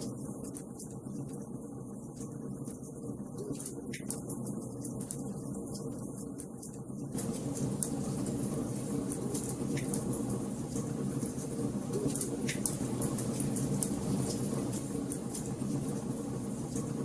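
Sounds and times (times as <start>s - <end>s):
wood fire burning: 0.0s - 17.0s
fire crackles and pops: 2.2s - 17.0s.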